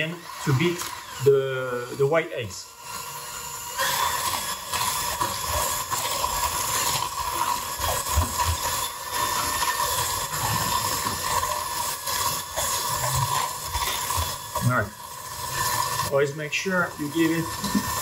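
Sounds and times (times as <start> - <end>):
beaters whisking hiss: 0.0 - 18.0
electric hand mixer whining: 0.0 - 18.0.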